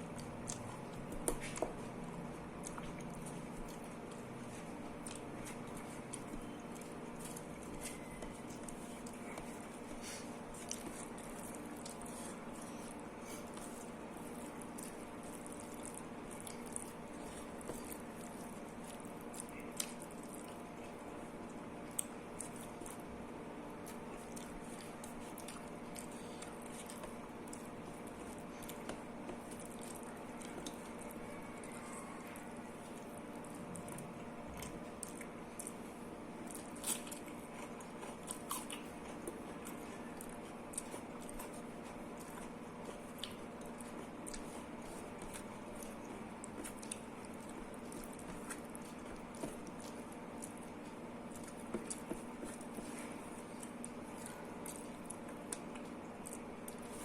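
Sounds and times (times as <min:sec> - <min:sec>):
wet squishy chewing: 0:00.0 - 0:23.2, 0:23.8 - 0:57.0
steady background hum: 0:00.0 - 0:57.0.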